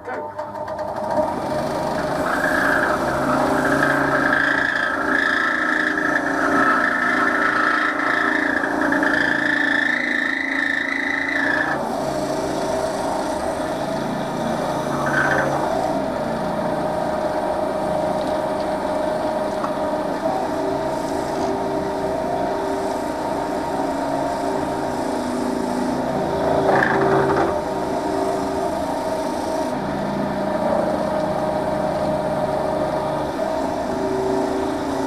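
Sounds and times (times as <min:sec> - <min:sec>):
wood lathe running: 0:00.0 - 0:35.0
cloth rubbing spinning wood: 0:00.8 - 0:35.0
high whine: 0:01.9 - 0:35.0.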